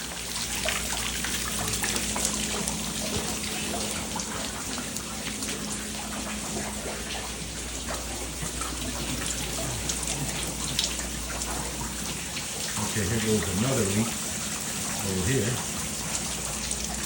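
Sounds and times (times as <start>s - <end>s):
drops splashing into water: 0.0s - 17.0s
water running from pipes: 0.0s - 17.0s.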